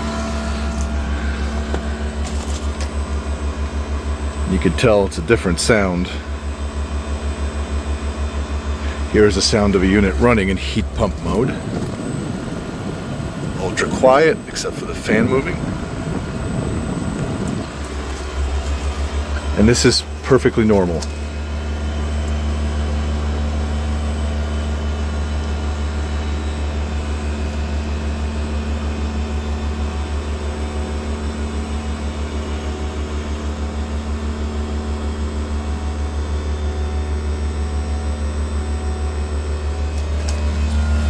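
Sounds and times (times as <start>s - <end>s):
heat pump compressor hum: 0.0s - 41.0s.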